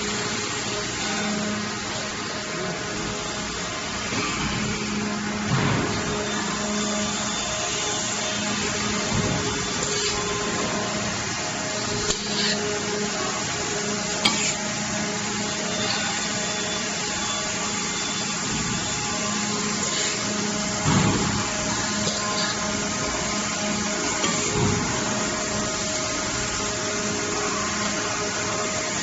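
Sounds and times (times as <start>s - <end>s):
welding machine humming: 0.0s - 29.0s.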